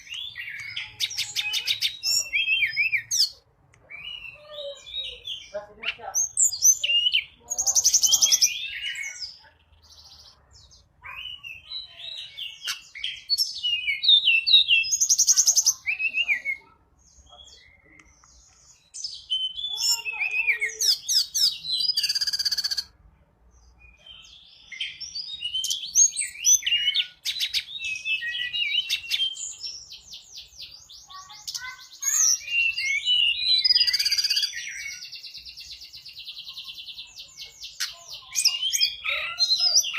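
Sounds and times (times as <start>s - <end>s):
bird chirps and trills: 0.0s - 23.0s, 23.6s - 39.9s.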